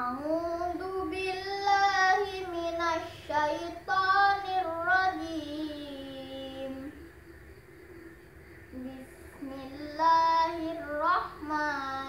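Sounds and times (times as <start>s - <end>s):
boy chanting: 0.0s - 6.9s, 8.7s - 12.0s.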